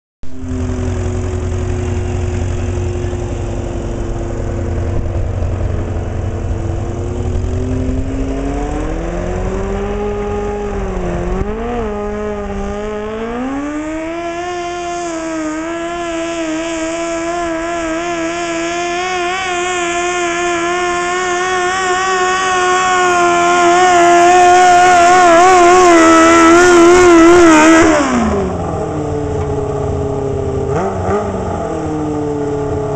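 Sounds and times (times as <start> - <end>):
tractor engine running hard: 0.2 - 32.9.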